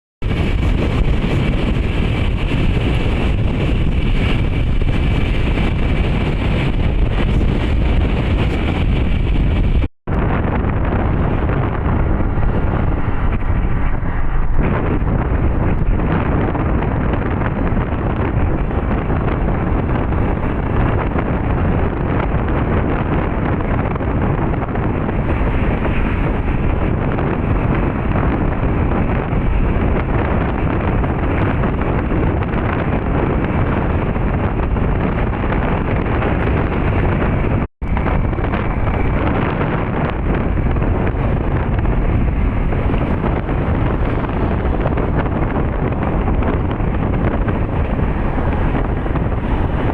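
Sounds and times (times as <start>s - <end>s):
vehicle rumble: 0.2s - 49.9s
wind buffeting microphone: 0.2s - 49.9s.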